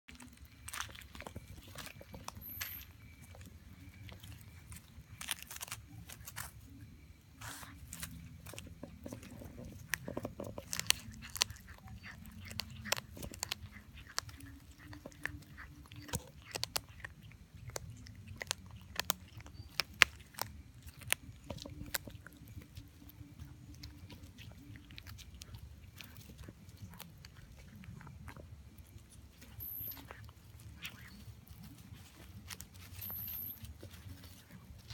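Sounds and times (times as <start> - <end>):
cat chewing fish: 0.1 - 34.9.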